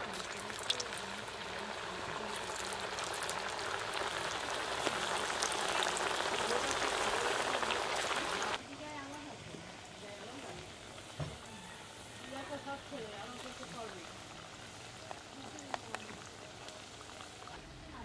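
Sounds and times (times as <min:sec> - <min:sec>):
deep-frying oil sizzling: 0:00.0 - 0:18.0.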